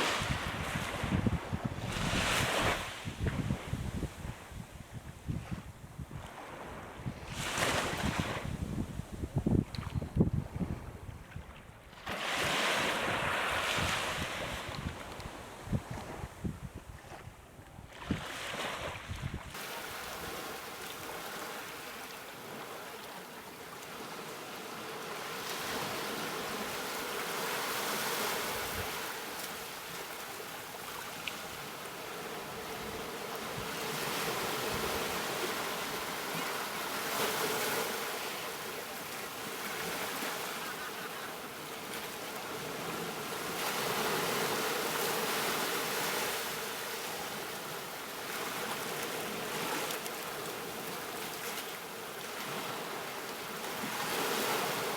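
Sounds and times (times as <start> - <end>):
ocean waves breaking on beach: 0.0 - 4.4, 11.9 - 16.4, 17.9 - 54.9.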